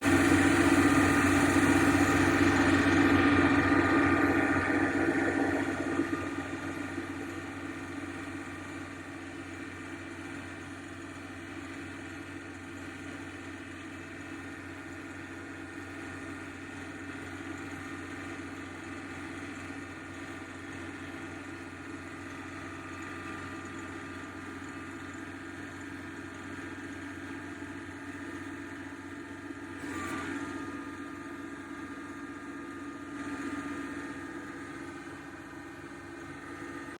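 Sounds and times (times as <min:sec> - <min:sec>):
mechanical engine-like hum: 0:00.0 - 0:36.9.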